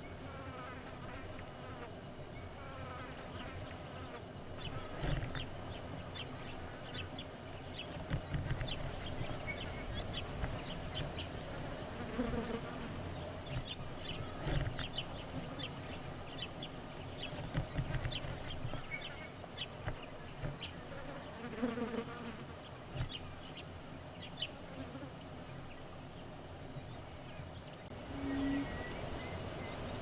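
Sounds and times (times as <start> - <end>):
flies buzzing: 0.0 - 26.7
small birds chirping: 2.0 - 30.0.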